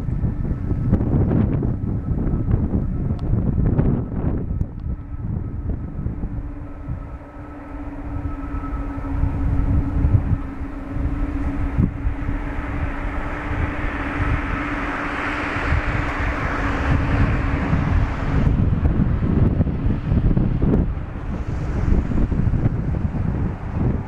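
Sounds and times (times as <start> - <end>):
jet engines running: 0.0 - 24.0
wind buffeting microphone: 0.0 - 24.0.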